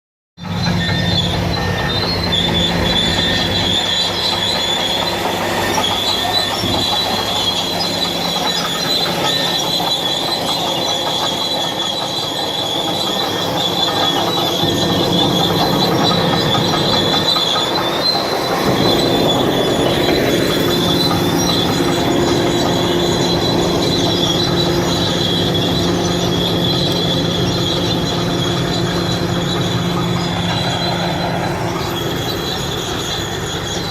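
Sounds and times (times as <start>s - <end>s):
crawler tracks squealing: 0.4s - 33.9s
diesel engine humming: 0.4s - 33.9s.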